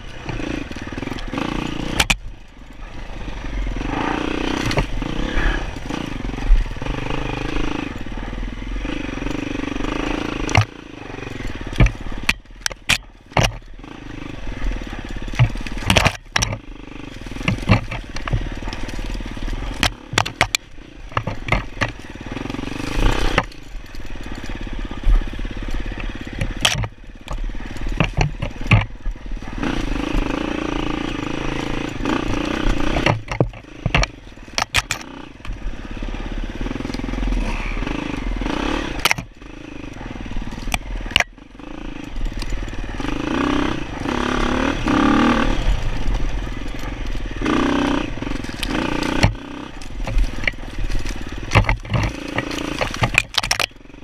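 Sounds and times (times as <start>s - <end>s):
dirt bike engine revving: 0.0s - 54.0s
knocks and rattles from bike: 0.0s - 54.0s.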